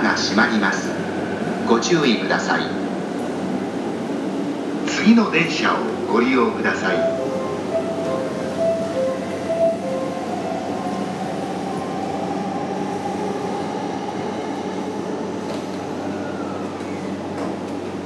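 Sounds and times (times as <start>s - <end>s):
train cars rumbling: 0.0s - 18.0s.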